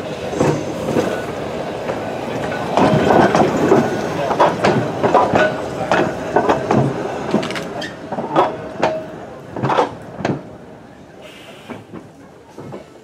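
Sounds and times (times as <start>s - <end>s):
tram wheels clattering over rail joints: 0.0s - 13.0s.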